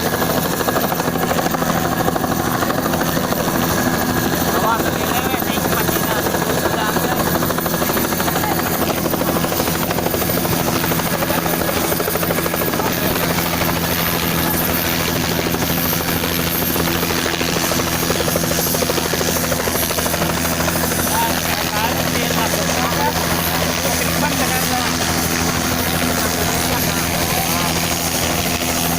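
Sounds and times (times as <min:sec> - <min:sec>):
helicopter engine hum: 0:00.0 - 0:28.9
helicopter rotor chop: 0:00.0 - 0:28.9.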